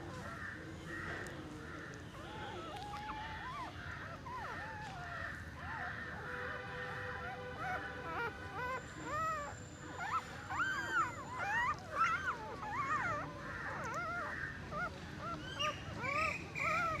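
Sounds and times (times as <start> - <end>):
puppies squeaking and whimpering: 1.0 - 17.0.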